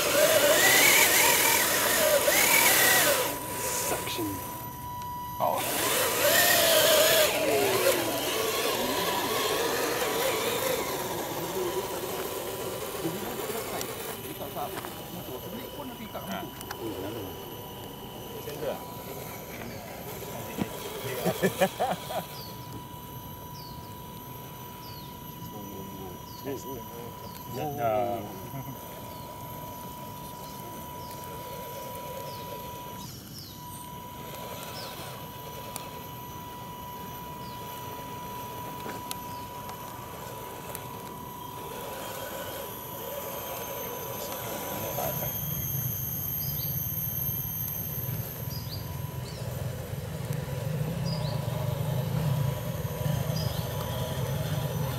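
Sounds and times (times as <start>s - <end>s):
birds chirping: 0.0s - 54.9s
toy truck electric motor whining: 0.0s - 54.9s.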